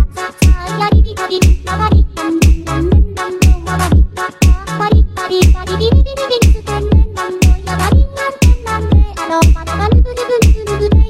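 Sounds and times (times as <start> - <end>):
kick drum beat: 0.0 - 11.0.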